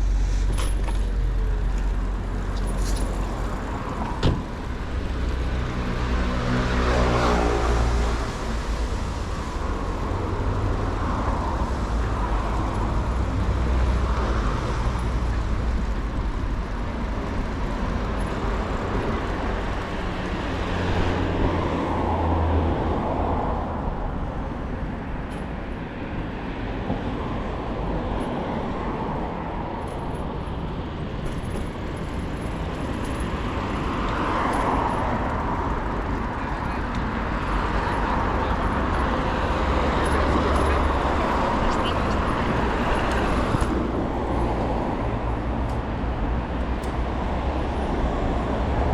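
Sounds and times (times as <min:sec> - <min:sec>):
heavy engine rumbles: 0:00.0 - 0:23.0, 0:30.1 - 0:48.9
cars passing: 0:00.0 - 0:48.9.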